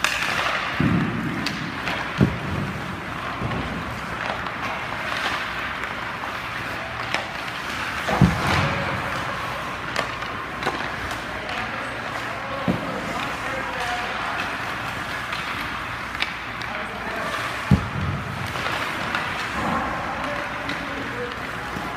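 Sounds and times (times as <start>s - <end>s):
skate blades scraping ice: 0.0s - 21.9s
stick hitting puck: 0.0s - 21.9s.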